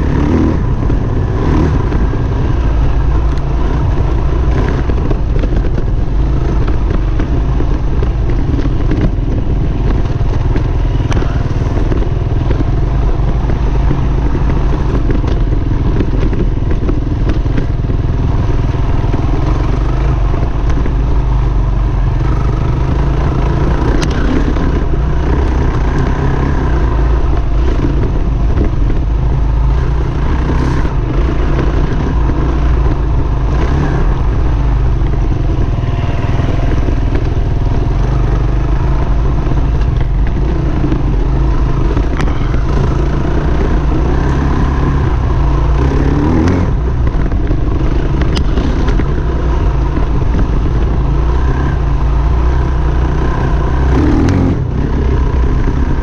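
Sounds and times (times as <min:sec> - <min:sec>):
dirt bike engine running: 0:00.0 - 0:56.0
knocks and clatter from bike: 0:00.1 - 0:56.0.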